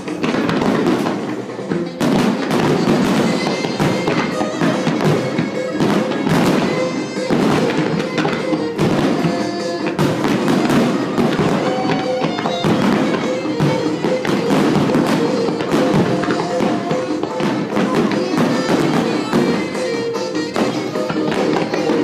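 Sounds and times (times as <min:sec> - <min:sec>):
fireworks bursting: 0:00.0 - 0:22.0
music playing: 0:00.0 - 0:22.0.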